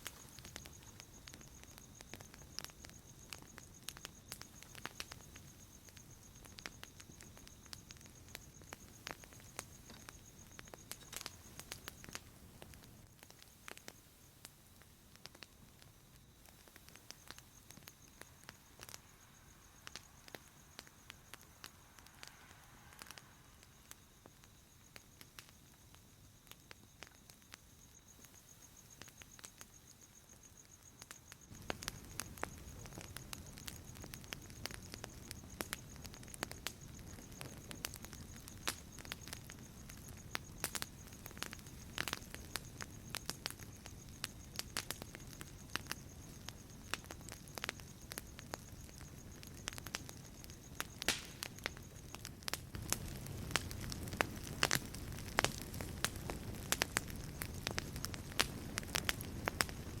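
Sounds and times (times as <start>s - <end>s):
campfire crackling: 0.0s - 60.0s.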